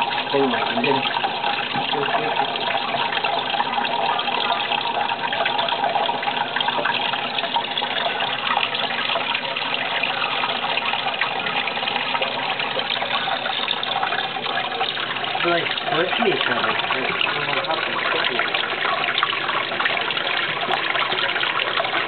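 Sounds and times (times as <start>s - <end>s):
running water trickling: 0.0s - 22.0s.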